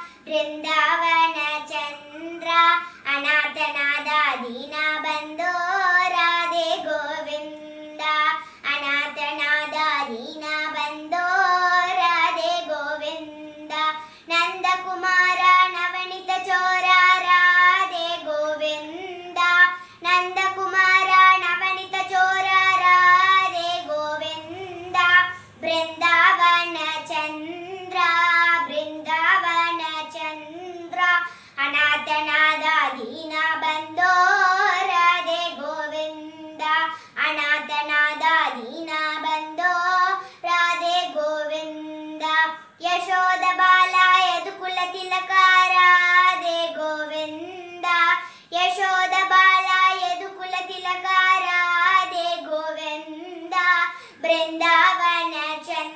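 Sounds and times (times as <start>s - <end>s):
girl singing: 0.0s - 55.9s.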